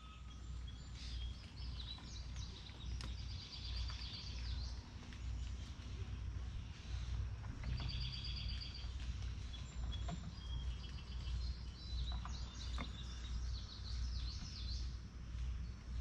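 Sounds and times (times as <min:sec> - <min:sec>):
small songbirds calling: 0:00.0 - 0:16.0
steady low rumble: 0:00.0 - 0:16.0.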